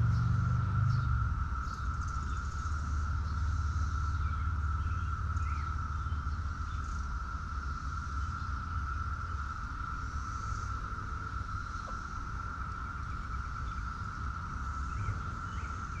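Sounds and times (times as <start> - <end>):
faint bird chirps: 0.0 - 16.0
low rumble: 0.0 - 16.0.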